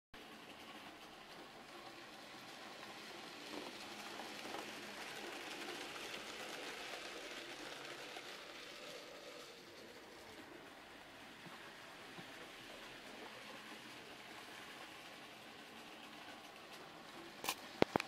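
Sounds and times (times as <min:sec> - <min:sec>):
model train rolling on track: 0:00.2 - 0:18.0.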